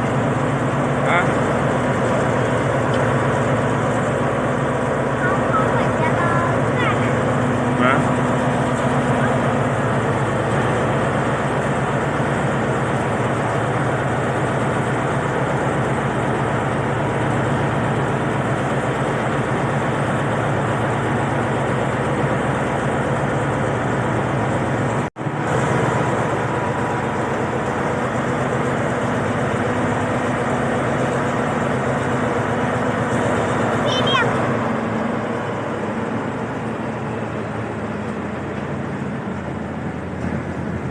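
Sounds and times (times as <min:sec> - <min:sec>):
locomotive diesel engine idling: 0:00.0 - 0:40.9.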